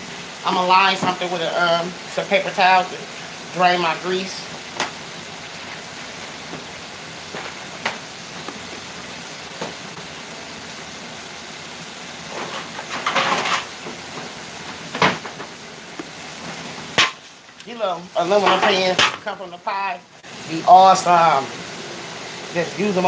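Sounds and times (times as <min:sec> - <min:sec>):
ribs sizzling in a pot: 0:00.0 - 0:23.0.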